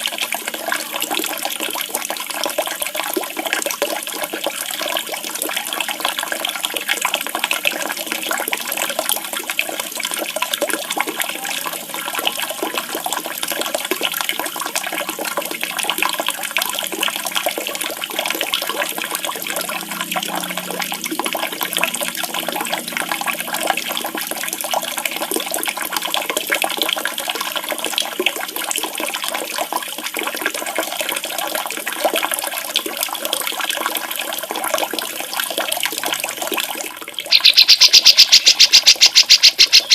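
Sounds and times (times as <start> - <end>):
running splashing water: 0.0 - 39.9.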